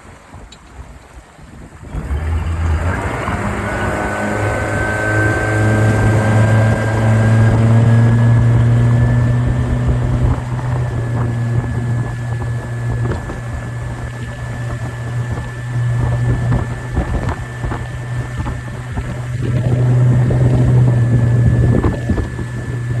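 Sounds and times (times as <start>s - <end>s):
wind buffeting microphone: 0.0s - 23.0s
outboard motor running: 1.6s - 23.0s.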